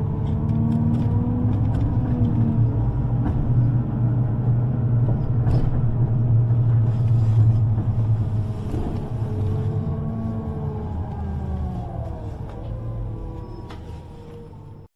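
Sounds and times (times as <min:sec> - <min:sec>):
underground train rumbling: 0:00.0 - 0:14.9.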